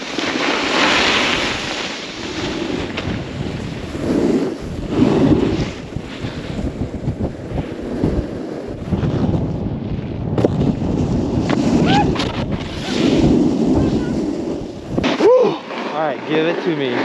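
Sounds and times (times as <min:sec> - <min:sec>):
snowboard edges scraping snow: 0:00.0 - 0:09.6, 0:10.4 - 0:17.0
wind buffeting microphone: 0:01.3 - 0:17.0.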